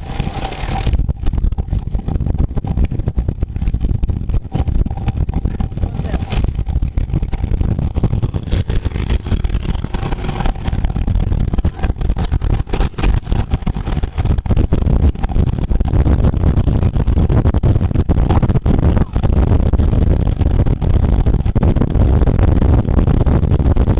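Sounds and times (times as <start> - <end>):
road noise: 0.0 - 23.9
wind buffeting microphone: 0.0 - 23.9.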